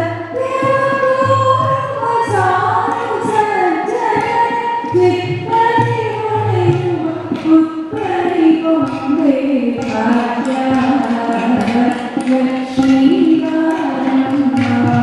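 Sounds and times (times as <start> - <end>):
singing voices with long held notes: 0.0 - 15.0.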